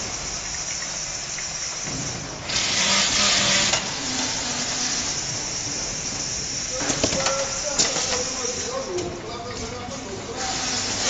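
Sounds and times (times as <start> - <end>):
compressed air hiss: 0.0 - 8.9, 10.4 - 11.0
packaging machine running: 0.0 - 11.0.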